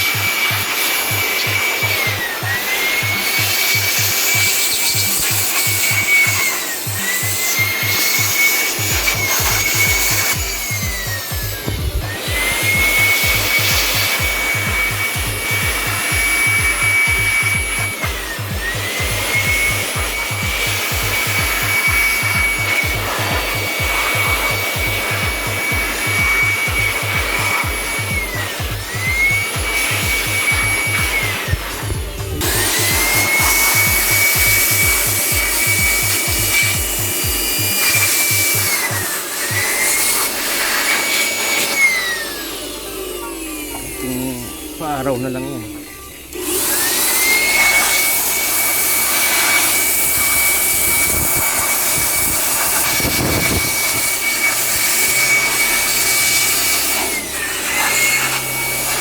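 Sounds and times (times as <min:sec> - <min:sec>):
high-speed electric motor whine: 0:00.0 - 0:59.0
low pulsing: 0:01.2 - 0:59.0.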